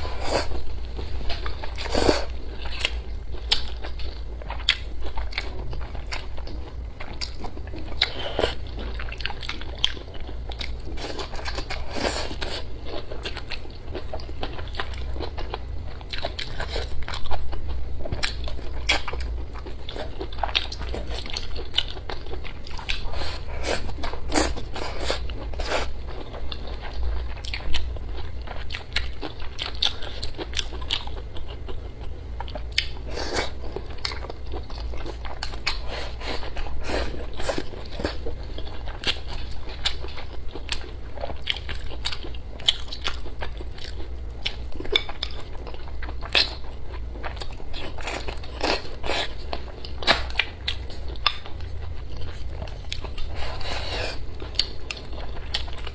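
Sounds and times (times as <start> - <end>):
biting and chewing food: 0.0 - 55.9
steady low hum: 0.0 - 55.9.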